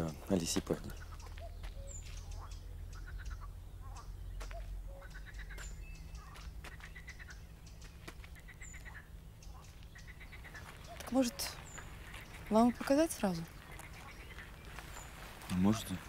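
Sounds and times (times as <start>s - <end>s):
ducks quacking: 0.0s - 16.0s
low outdoor rumble: 0.0s - 16.0s
small bird chirping: 0.0s - 16.0s.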